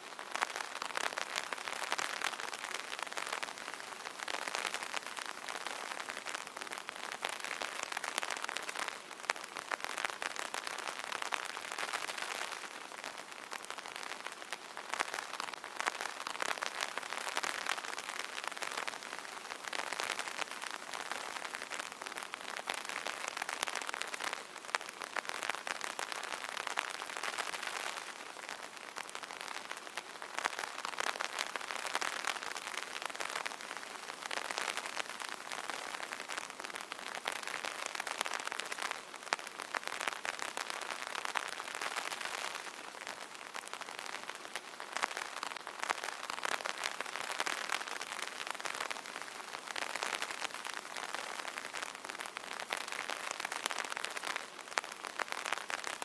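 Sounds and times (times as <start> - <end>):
rain pattering on umbrella: 0.0 - 56.0.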